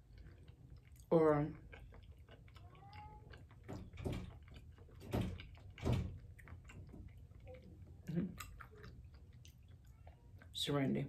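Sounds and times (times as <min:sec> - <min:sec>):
quiet chewing with mouth clicks: 0:00.0 - 0:10.8.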